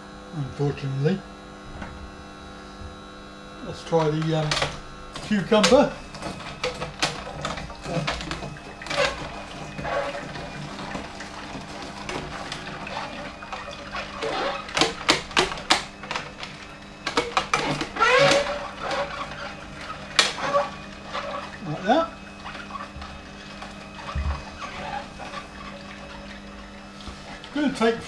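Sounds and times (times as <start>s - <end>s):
juicer humming: 0.0s - 28.0s
cucumber cracking in juicer: 3.6s - 28.0s.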